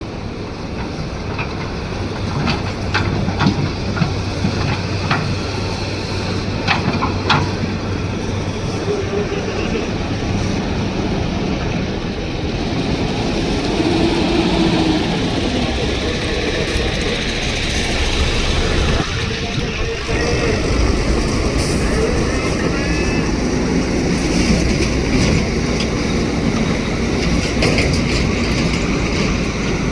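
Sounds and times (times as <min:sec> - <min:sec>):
excavator diesel engine humming: 0:00.0 - 0:29.9.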